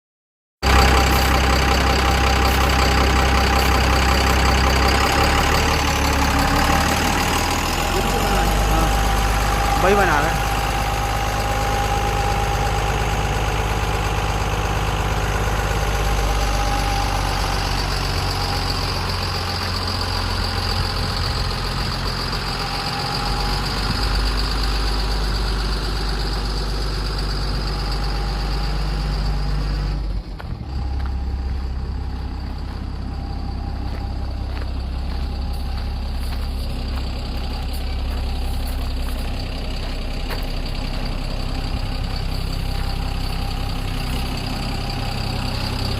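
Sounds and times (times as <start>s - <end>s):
diesel truck engine idling: 0.6s - 45.9s.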